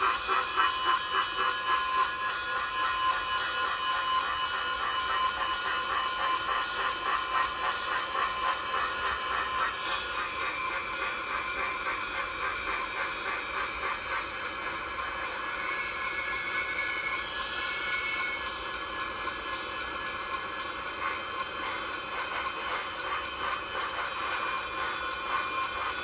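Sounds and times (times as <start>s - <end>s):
ringing high tones pulsing rapidly: 0.0s - 26.0s.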